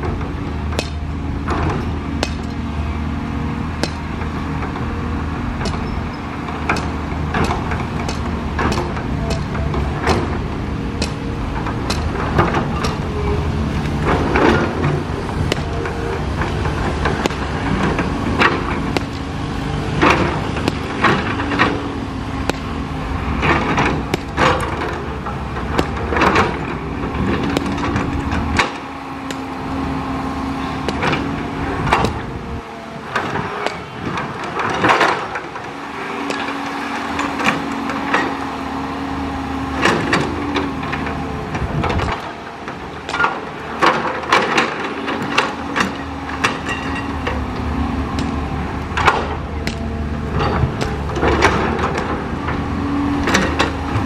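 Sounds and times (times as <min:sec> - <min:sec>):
excavator engine drone with whine: 0:00.0 - 0:54.0.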